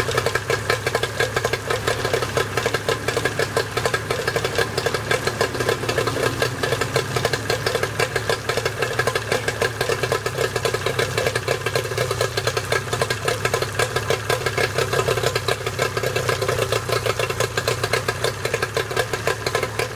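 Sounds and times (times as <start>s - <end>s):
outboard motor running: 0.0s - 19.9s.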